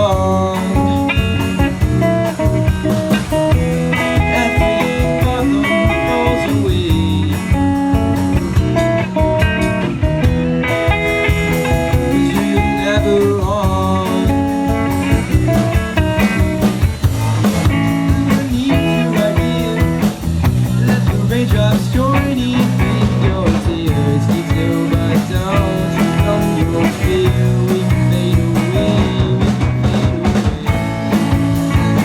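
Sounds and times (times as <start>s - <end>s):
guitar bending notes: 0.0s - 32.0s
live band playing blues rock: 0.0s - 32.0s.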